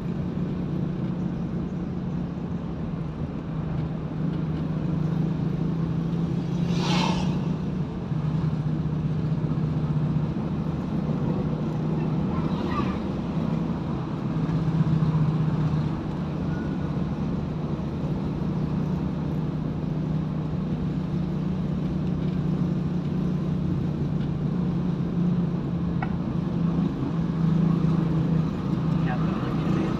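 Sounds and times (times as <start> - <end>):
car engine and tyre hum: 0.0 - 29.9.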